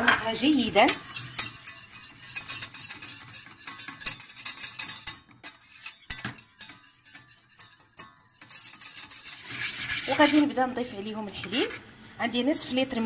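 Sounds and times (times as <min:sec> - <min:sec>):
whisk scraping a saucepan: 0:00.0 - 0:11.9.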